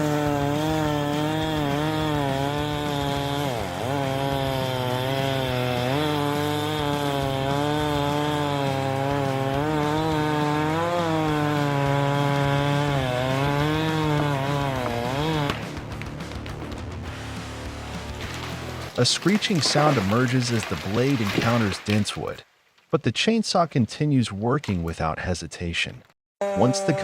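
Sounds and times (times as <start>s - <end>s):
chainsaw cutting wood: 0.0s - 22.4s.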